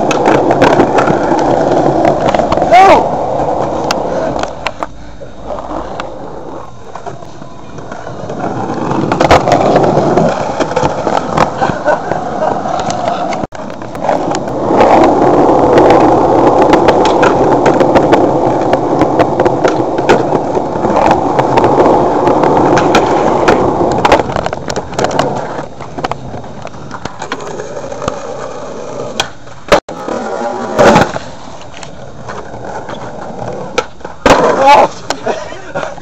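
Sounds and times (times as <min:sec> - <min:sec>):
skateboard clacks: 0:00.0 - 0:36.0
skateboard wheels rolling on concrete: 0:00.0 - 0:36.0.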